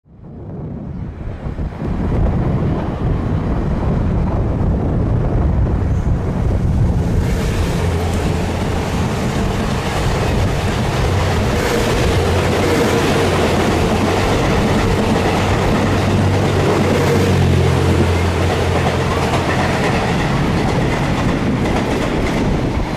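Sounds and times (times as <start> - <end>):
wind on microphone: 0.1 - 22.9
train approaching: 0.9 - 22.9.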